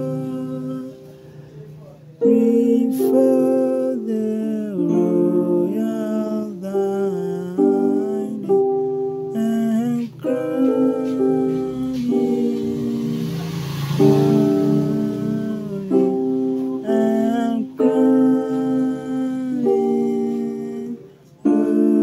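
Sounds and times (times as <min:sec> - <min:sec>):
keyboard piano chords: 0:00.0 - 0:22.0.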